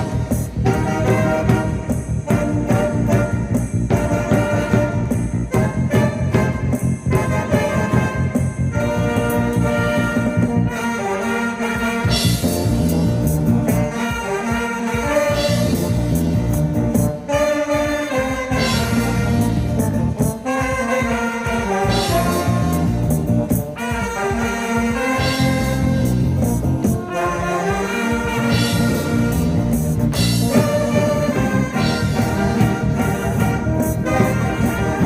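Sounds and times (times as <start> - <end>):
ensemble playing lively instrumental: 0.0 - 35.0.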